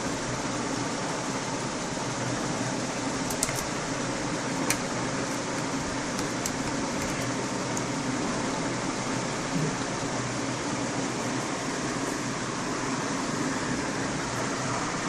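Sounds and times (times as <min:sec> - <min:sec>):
room hiss and hum: 0:00.0 - 0:15.0.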